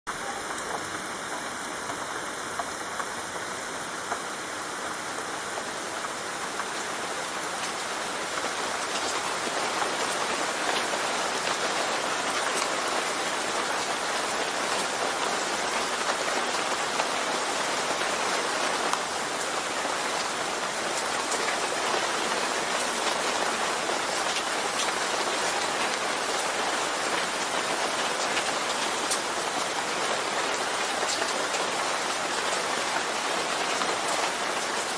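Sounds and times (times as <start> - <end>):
raindrops ticking: 0.1 - 18.1, 18.7 - 34.9
steady rain falling: 0.1 - 34.9.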